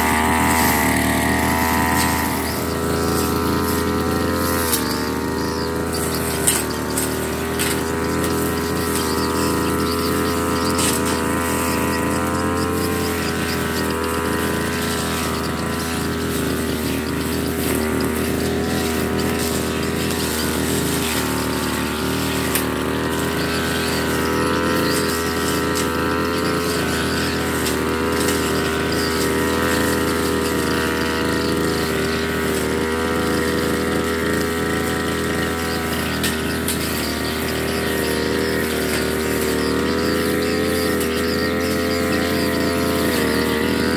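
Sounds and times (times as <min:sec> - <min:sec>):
brush cutter engine cutting grass: 0:00.0 - 0:43.9.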